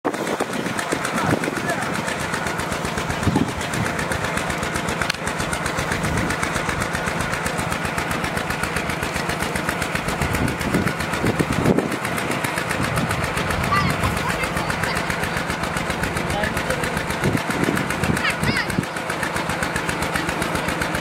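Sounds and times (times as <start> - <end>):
small pump engine running: 0.0 - 21.0.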